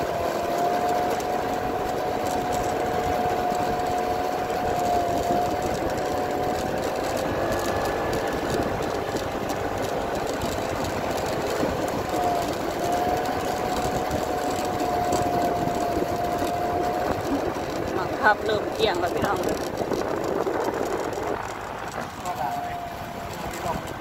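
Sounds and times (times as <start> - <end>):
kite hummer string humming: 0.0 - 24.0
scooter engine running: 0.0 - 24.0
wind noise: 0.0 - 24.0.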